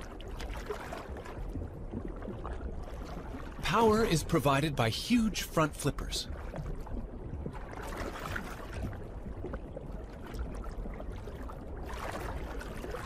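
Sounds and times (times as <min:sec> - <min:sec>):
underwater rushing water: 0:00.0 - 0:13.0.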